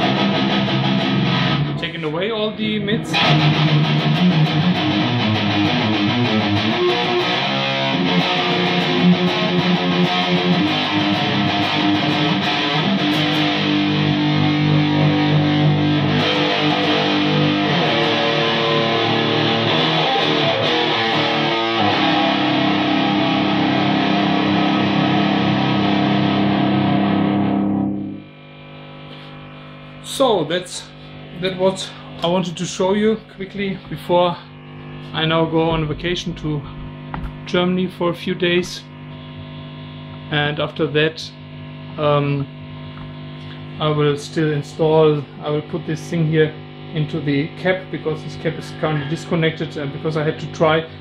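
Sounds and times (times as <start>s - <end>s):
distorted electric guitar chords: 0.0s - 51.0s.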